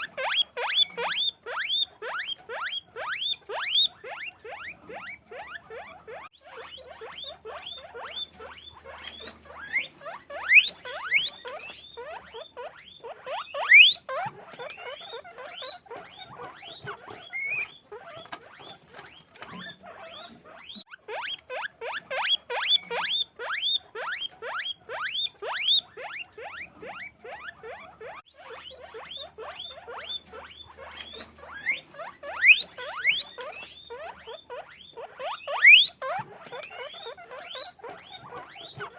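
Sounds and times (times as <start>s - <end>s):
guinea pigs squeaking: 0.0s - 38.9s
shrill squeals: 0.0s - 38.9s.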